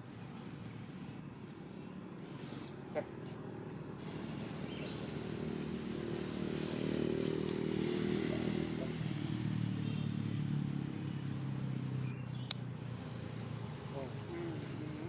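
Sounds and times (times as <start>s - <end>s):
vehicle engine running: 0.4s - 6.8s, 7.4s - 15.0s.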